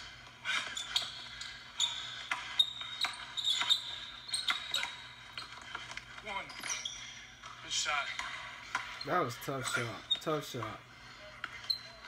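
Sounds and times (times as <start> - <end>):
sneaker squeaks: 0.4 - 7.4, 8.1 - 10.6, 11.2 - 12.0.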